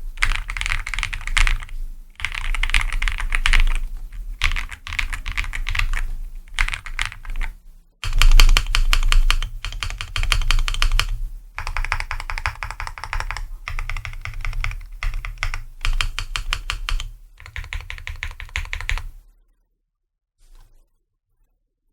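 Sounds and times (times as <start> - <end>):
mechanical keyboard typing: 0.0 - 19.2.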